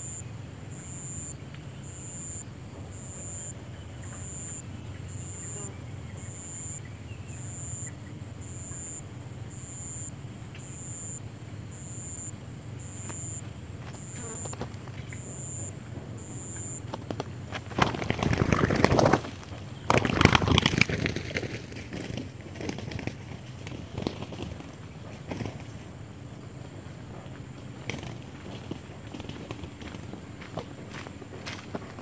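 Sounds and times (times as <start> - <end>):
insect chirping: 0.0 - 32.0.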